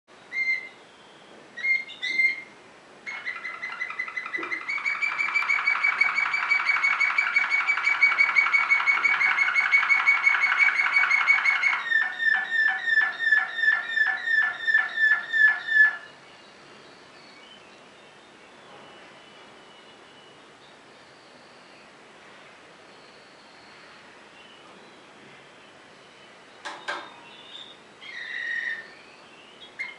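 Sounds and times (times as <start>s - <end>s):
canary singing: 0.1s - 21.9s, 22.8s - 29.9s.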